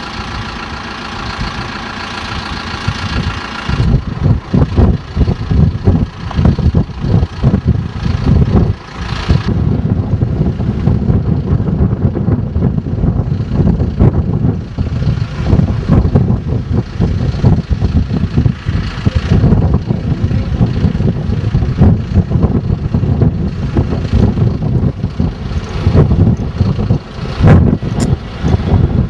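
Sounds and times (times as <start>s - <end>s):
tractor engine running: 0.0s - 29.0s
wind buffeting microphone: 1.2s - 29.0s.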